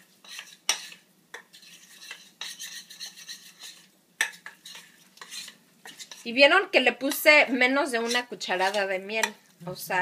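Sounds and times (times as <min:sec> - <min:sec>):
spoon scraping metal saucepan: 0:00.0 - 0:09.6.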